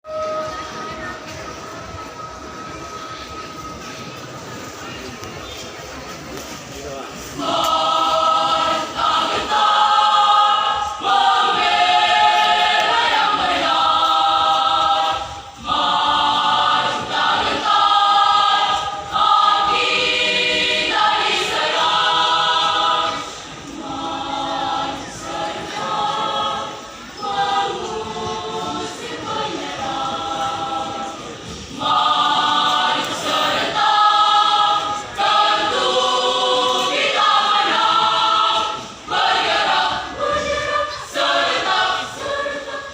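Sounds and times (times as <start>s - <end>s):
choir singing in parts: 7.2s - 42.9s.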